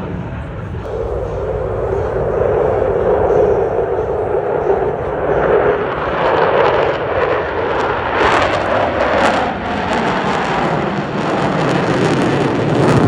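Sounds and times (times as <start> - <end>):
jet aircraft engines roaring: 0.0 - 13.0.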